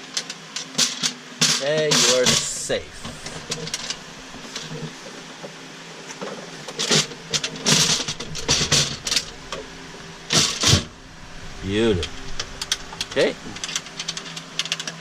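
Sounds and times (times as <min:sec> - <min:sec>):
faint steady hum: 0:01.7 - 0:15.0.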